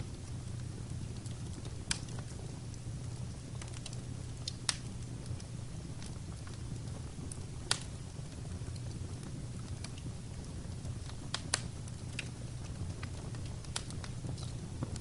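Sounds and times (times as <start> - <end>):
crackles and pops of fire: 0.0 - 15.0
fire burning in a fireplace: 0.0 - 15.0.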